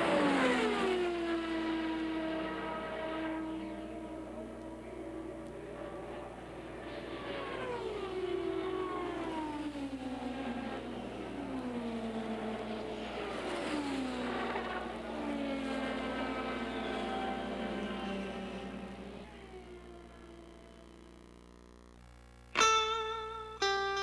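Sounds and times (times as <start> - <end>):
race cars passing: 0.0 - 20.6.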